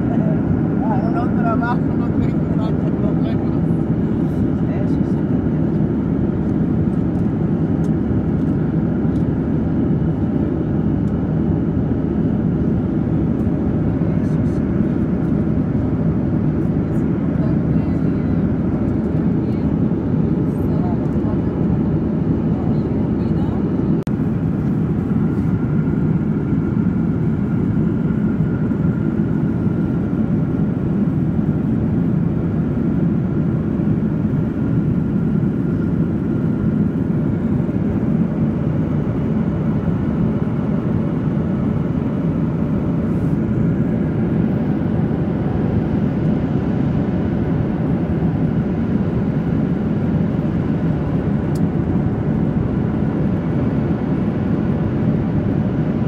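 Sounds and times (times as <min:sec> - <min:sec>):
airplane cabin low rumble: 0:00.0 - 0:56.0.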